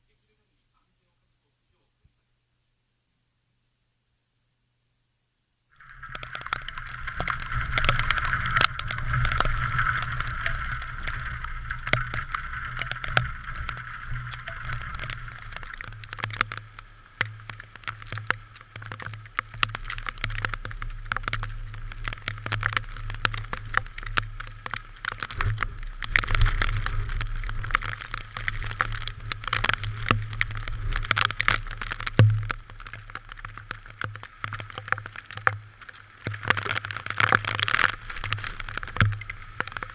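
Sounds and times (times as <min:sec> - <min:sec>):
raindrops tapping on camera: 0:05.7 - 0:39.9.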